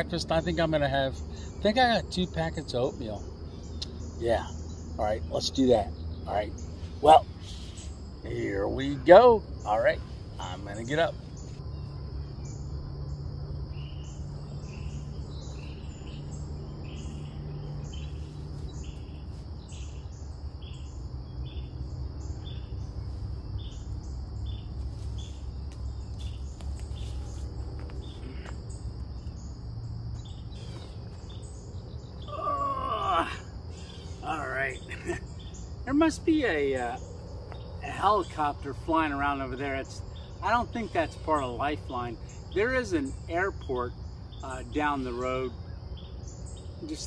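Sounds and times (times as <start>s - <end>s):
distant aircraft rumble: 0.0s - 47.0s
high insect drone: 0.0s - 47.0s
insects and birds chirping: 0.0s - 47.0s.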